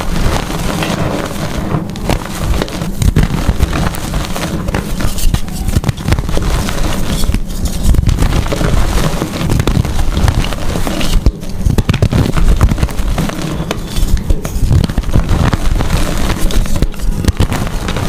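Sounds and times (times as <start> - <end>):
chalk crushing and crunching: 0.0 - 18.0.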